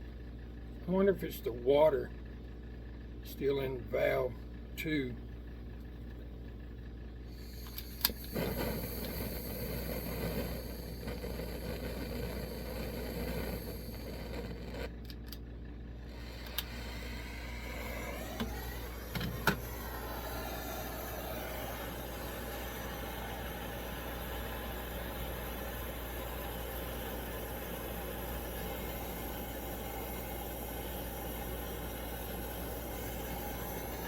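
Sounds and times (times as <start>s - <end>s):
stove burner hissing roar: 0.0s - 34.0s.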